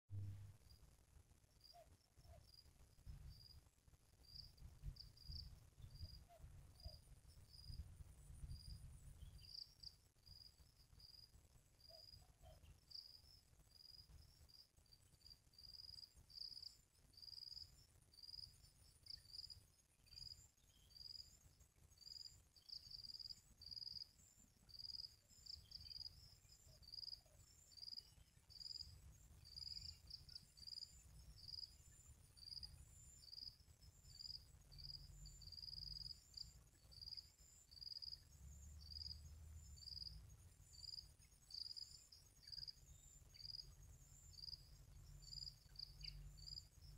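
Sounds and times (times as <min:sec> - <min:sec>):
faint low rumble: 0:00.1 - 0:46.9
insect chirping: 0:01.5 - 0:46.9.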